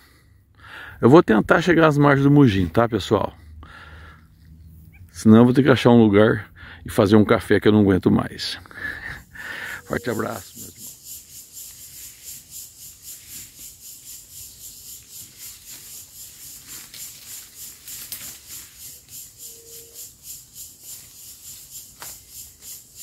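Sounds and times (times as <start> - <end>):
insects chirping: 1.5 - 23.0.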